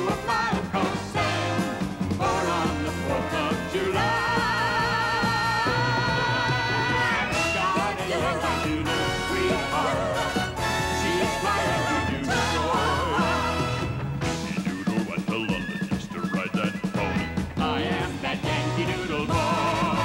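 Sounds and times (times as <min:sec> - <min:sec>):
pop song singing: 0:00.0 - 0:20.0.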